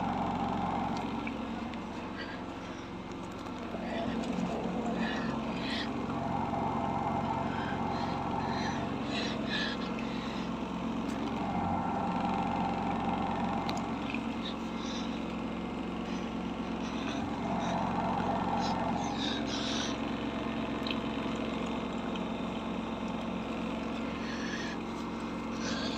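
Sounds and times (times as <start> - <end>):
washing machine spinning: 0.0 - 25.9.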